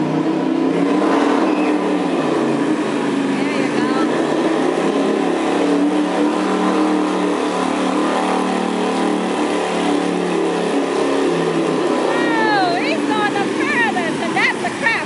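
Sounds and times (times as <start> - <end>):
riding lawn mower engine: 0.0 - 15.0.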